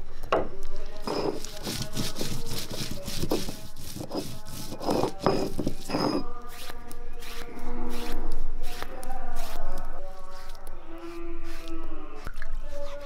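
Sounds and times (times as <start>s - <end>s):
stone roller grinding on stone: 1.0s - 11.7s.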